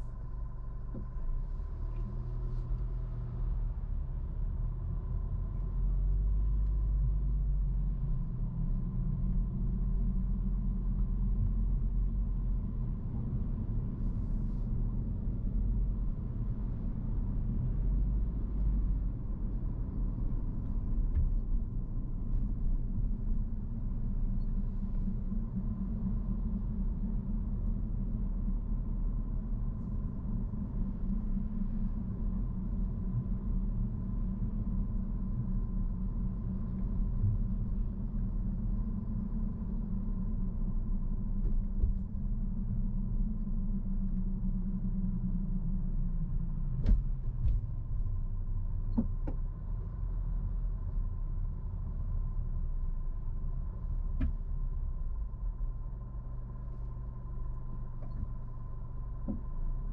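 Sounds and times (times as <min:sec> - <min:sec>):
car road and engine rumble: 0:00.0 - 0:59.9
faint steady whine: 0:00.0 - 0:59.9.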